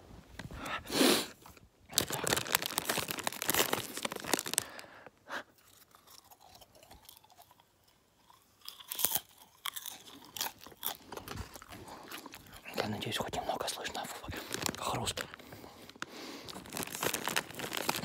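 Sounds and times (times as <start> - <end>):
popcorn crunching and chewing: 0.6 - 18.0.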